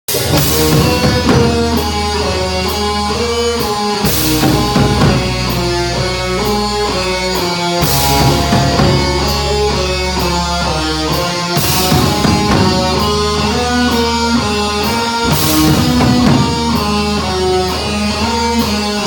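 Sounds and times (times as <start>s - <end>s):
heavy metal band playing: 0.1s - 19.0s.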